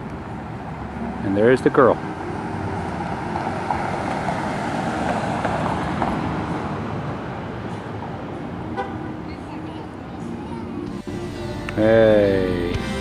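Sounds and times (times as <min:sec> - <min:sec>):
passing motor vehicles: 0:00.0 - 0:13.0.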